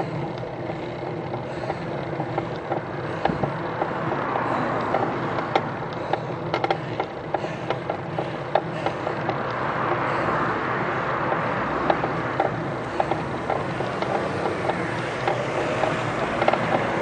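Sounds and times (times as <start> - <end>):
bicycle clicks and rattles: 0.0 - 17.0
bicycle drivetrain and tyre noise: 0.0 - 17.0.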